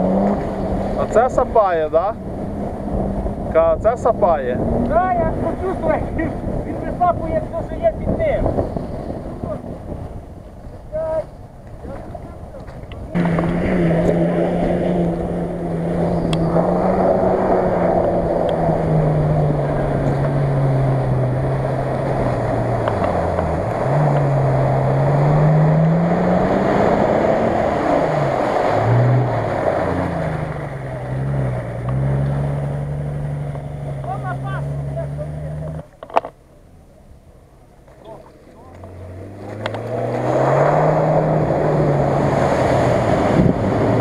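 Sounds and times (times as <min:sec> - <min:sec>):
suv engine revving: 0:00.0 - 0:10.2, 0:13.0 - 0:37.7, 0:38.7 - 0:44.0
tyres churning mud and water: 0:00.0 - 0:36.0, 0:37.4 - 0:44.0.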